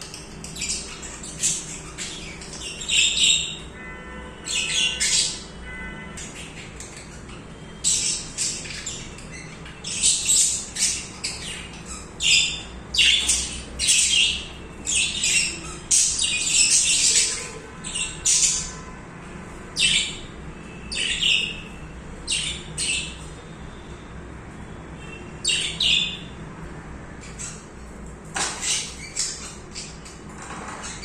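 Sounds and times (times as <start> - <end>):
budgies chirping and squawking: 0.0 - 3.8, 4.4 - 18.9, 19.7 - 23.4, 25.4 - 26.4, 27.2 - 31.0.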